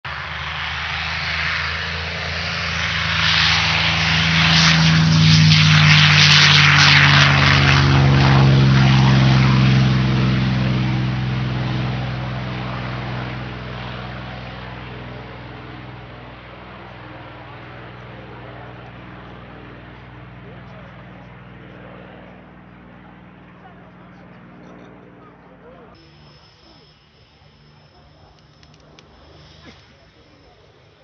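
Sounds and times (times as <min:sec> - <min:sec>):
propeller plane engine at full power: 0:00.1 - 0:31.0.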